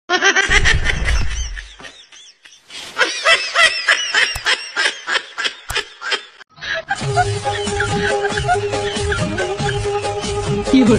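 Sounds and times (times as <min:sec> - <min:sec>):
laughter track: 0:00.1 - 0:10.0.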